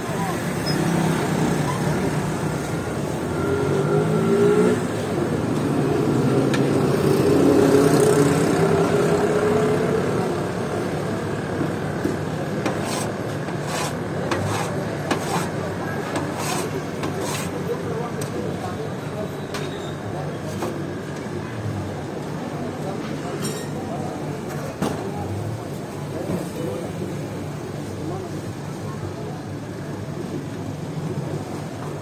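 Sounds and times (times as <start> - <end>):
traffic noise: 0.0 - 32.0.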